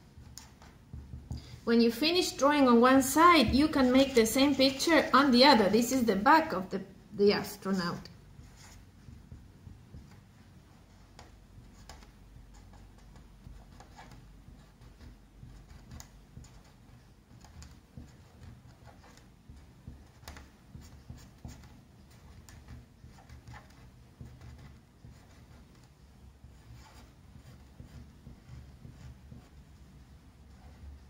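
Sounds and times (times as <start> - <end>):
marker scratching on paper: 2.4 - 6.1, 8.4 - 31.0.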